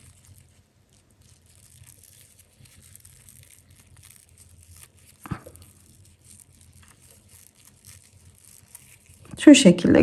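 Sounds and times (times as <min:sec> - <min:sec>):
paper yarn crinkling and rustling: 0:00.0 - 0:10.0.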